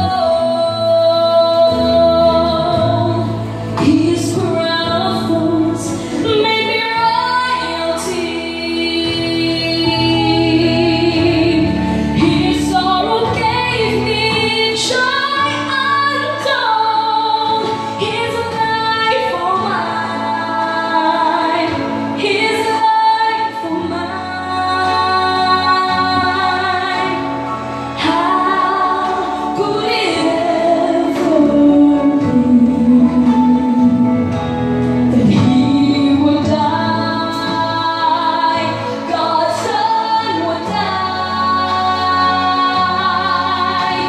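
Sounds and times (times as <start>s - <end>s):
held accompaniment chords: 0.0s - 44.0s
woman singing into microphone: 0.0s - 44.0s.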